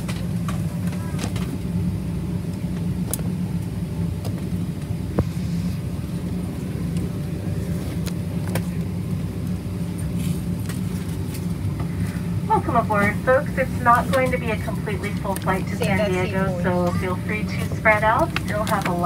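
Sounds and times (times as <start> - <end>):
aircraft cabin ventilation drone: 0.0 - 19.0.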